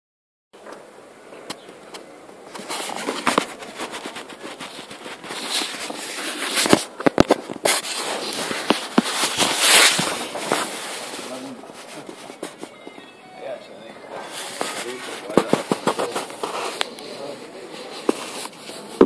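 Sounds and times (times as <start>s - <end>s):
phone microphone handling noise: 0.6s - 13.1s, 14.1s - 19.0s.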